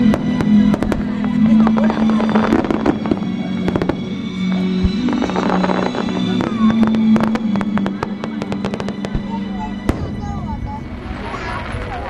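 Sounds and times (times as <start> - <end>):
music with low sustained notes: 0.0 - 11.3
fireworks bursting and crackling: 0.0 - 12.0.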